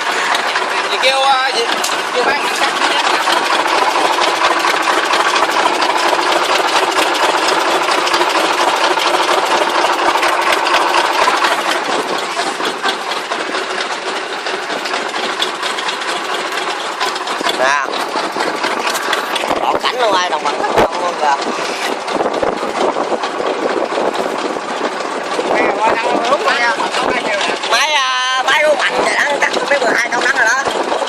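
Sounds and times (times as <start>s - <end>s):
combine harvester engine running: 0.0s - 31.0s
rapid mechanical rattle: 0.0s - 31.0s.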